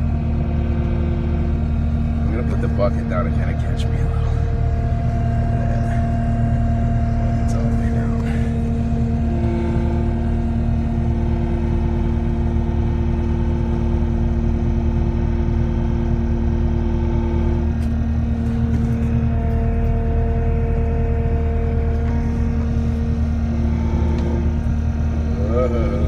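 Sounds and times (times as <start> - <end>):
diesel engine running under load: 0.0 - 26.0
whining tones: 0.0 - 26.0.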